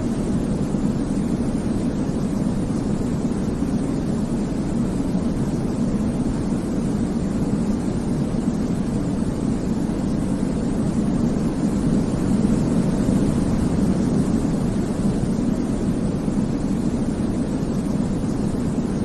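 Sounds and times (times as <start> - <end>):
deep white noise: 0.0 - 19.0.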